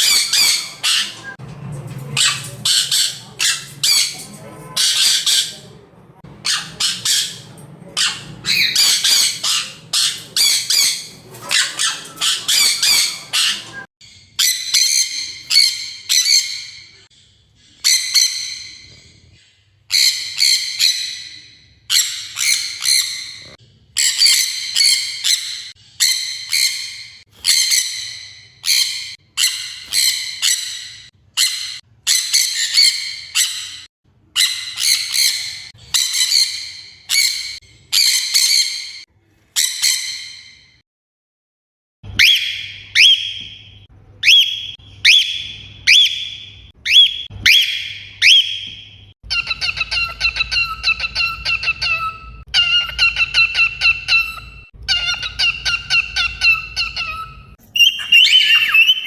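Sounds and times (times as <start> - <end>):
parrots squawking loudly: 0.0 - 1.3, 2.2 - 5.6, 6.3 - 17.0, 17.8 - 19.0, 19.9 - 39.0, 39.6 - 40.7, 42.2 - 43.6, 44.2 - 59.0.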